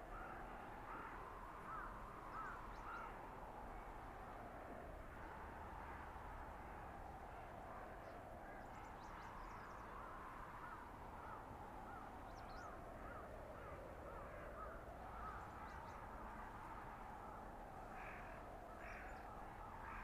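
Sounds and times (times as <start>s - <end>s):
blizzard wind: 0.0s - 20.0s.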